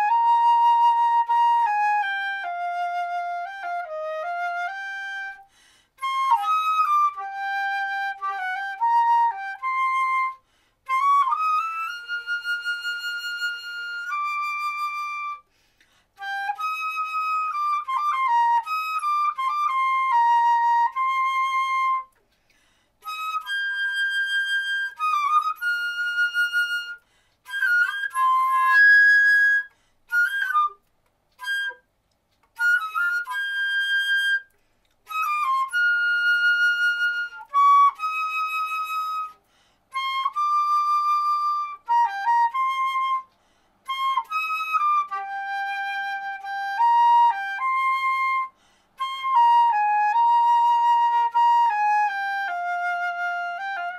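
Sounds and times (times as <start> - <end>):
flute playing slow melody: 0.0 - 15.5, 16.2 - 22.3, 23.0 - 53.9.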